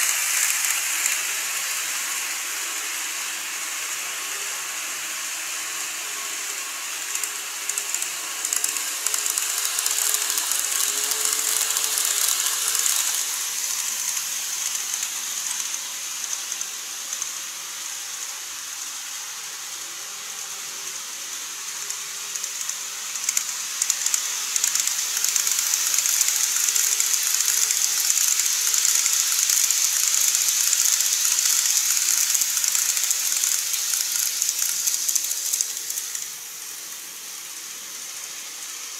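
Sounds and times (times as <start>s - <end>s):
model trains rattling on track: 0.0s - 38.9s.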